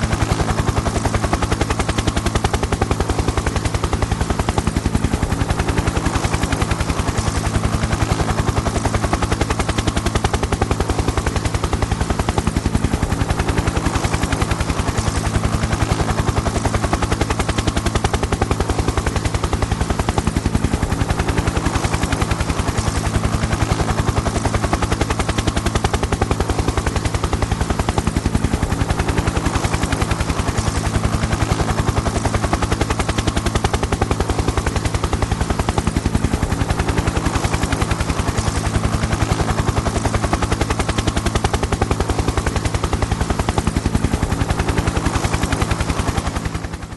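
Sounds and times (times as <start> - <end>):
helicopter rotor blades chopping: 0.0 - 46.9.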